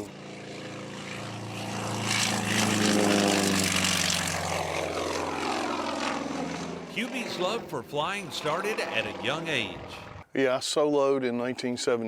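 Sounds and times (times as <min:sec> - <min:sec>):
propeller airplane flying past: 0:00.0 - 0:10.4.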